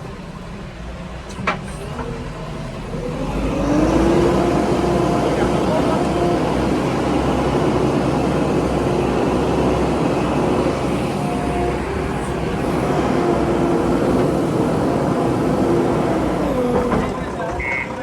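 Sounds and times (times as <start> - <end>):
heavy diesel engine rumbling: 0.0 - 18.0.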